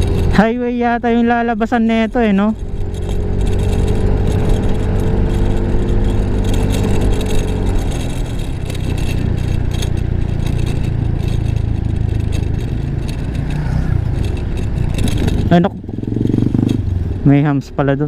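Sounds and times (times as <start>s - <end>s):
road and wind noise: 0.0s - 18.0s
scooter engine humming: 0.0s - 18.0s.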